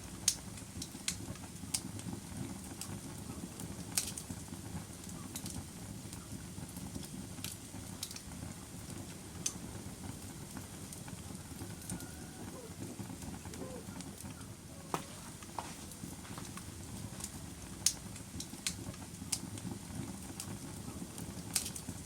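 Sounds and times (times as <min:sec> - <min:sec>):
fire crackles and pops: 0:00.0 - 0:22.0
low rumble of flame: 0:00.0 - 0:22.0.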